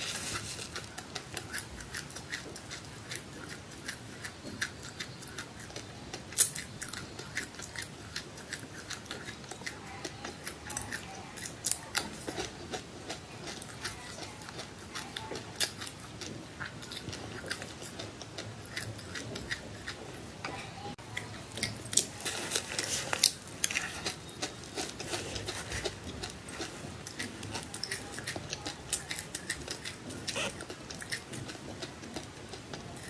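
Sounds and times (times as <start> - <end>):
chewing crunchy seeds: 0.0 - 20.2, 21.0 - 33.0.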